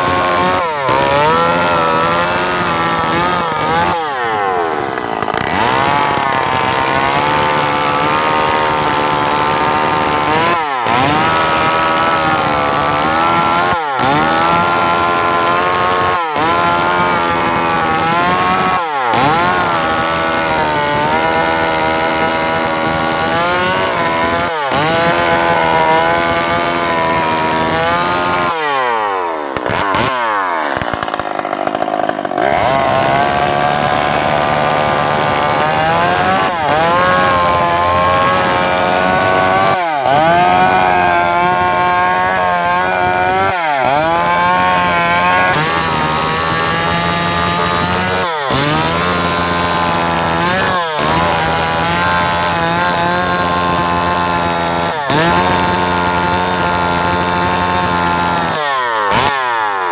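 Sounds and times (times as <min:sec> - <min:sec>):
chainsaw cutting into wood: 0:00.0 - 0:59.9.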